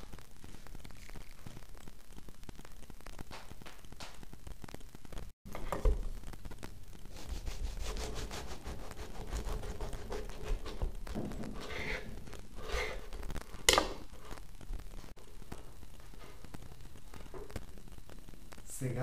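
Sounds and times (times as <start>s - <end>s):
crusty bread rustling and crackling: 0.0s - 18.6s.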